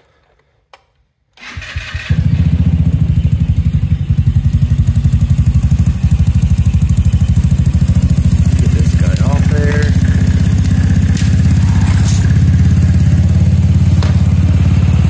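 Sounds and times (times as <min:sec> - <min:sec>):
engine cranking: 0:01.4 - 0:02.7, 0:04.2 - 0:15.0
small engine running: 0:02.0 - 0:15.0.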